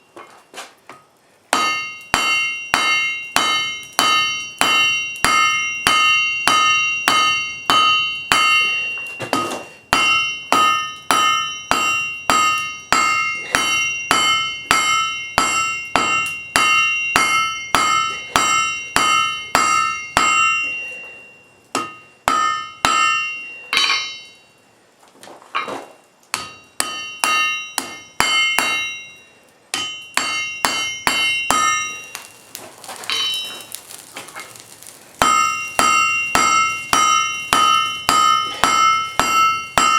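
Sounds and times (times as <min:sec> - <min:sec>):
hammer striking iron on anvil: 0:00.9 - 0:24.4, 0:25.6 - 0:39.9
anvil ringing: 0:01.5 - 0:24.4, 0:29.8 - 0:39.9.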